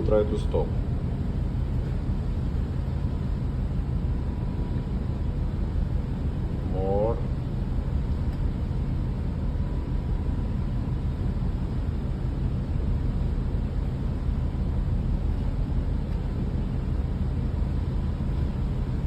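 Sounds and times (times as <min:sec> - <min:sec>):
ship machinery rumble: 0:00.0 - 0:19.0.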